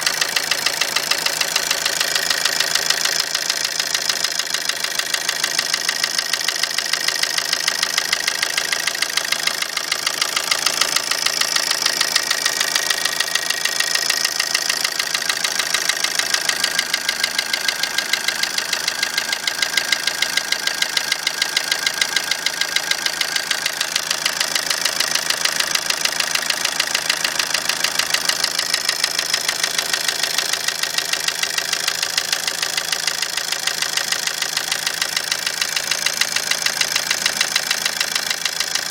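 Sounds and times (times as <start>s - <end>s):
diesel engine idling with knock: 0.0s - 38.9s.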